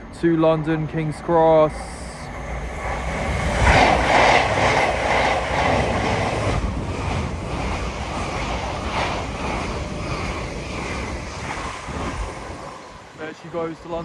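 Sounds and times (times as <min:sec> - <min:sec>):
electric train passing at speed: 0:00.0 - 0:14.0
train wheels clattering: 0:02.4 - 0:14.0.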